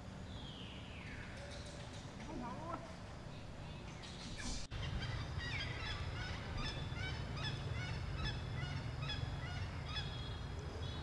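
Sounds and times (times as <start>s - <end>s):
chirping animal calls: 1.1s - 11.0s.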